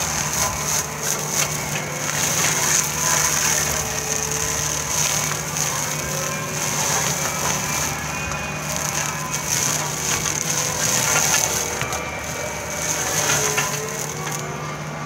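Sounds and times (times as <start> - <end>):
diesel engine under load: 0.0 - 15.0
grinding and crackling vegetation: 0.0 - 15.0
high hydraulic whine: 0.0 - 15.0.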